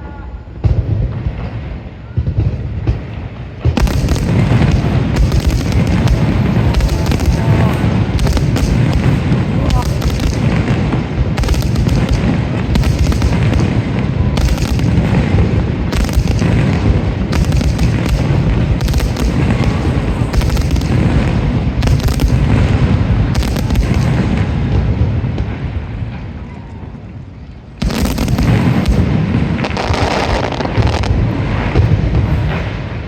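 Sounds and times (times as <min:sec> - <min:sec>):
fireworks crackle: 0:00.5 - 0:33.0
fireworks shells booming: 0:00.5 - 0:33.0.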